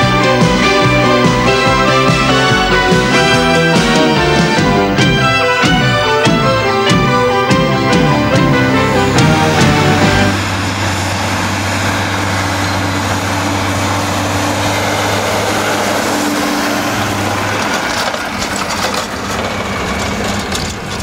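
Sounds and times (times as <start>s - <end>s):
tractor engine driving past: 0.0s - 21.0s.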